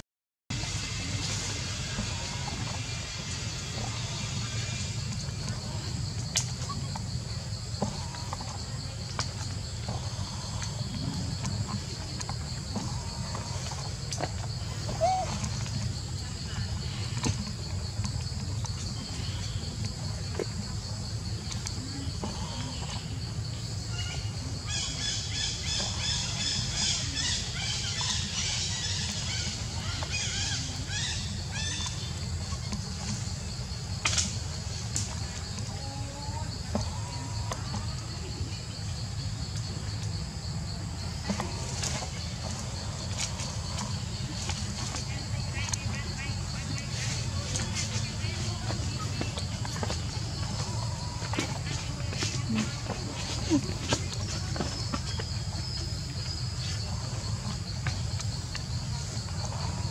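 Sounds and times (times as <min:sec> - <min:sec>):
insect chorus trilling: 0:00.5 - 0:59.9.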